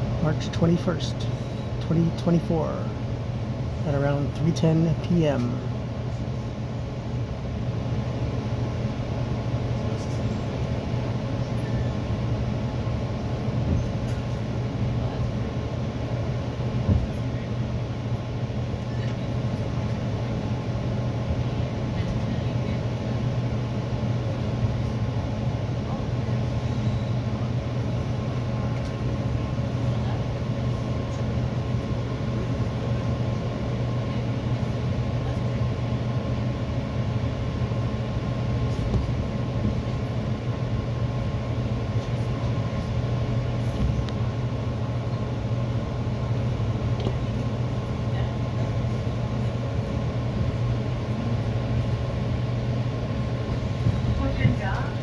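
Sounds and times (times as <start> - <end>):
constant hum: 0.0 - 55.0
train rumbling on tracks: 2.8 - 55.0.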